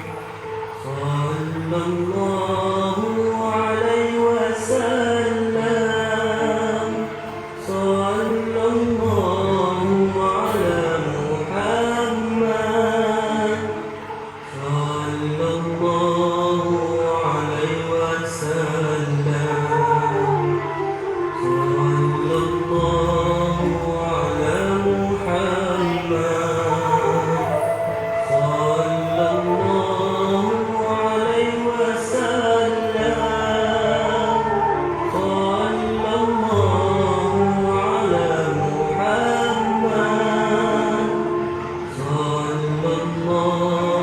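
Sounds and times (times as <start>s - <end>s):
steady low drone: 0.0s - 44.0s
voice chanting in held notes: 0.0s - 44.0s.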